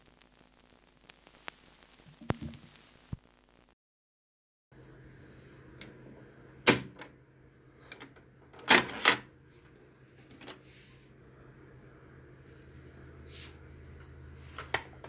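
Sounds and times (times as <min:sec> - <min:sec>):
mains hum: 0:00.0 - 0:03.8, 0:04.8 - 0:15.0
tape hiss: 0:00.0 - 0:03.8, 0:04.8 - 0:15.0.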